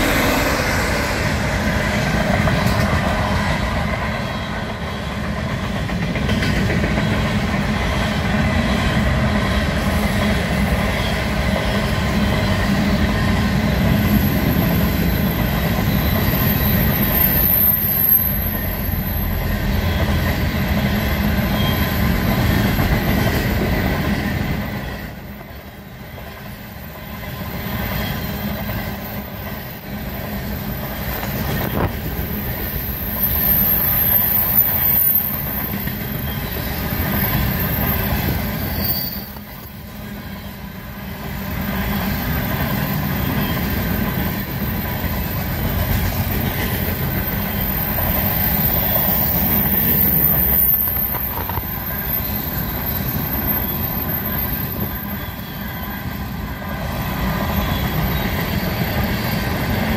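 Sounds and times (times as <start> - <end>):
high wheel squeal: 0.0 - 2.6, 7.0 - 23.5, 27.2 - 59.9
train wheels rumbling over rails: 0.0 - 59.9.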